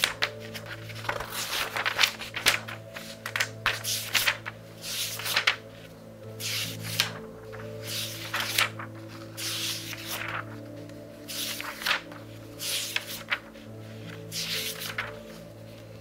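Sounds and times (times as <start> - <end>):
book pages turning: 0.0 - 16.0
soft background music: 0.0 - 16.0.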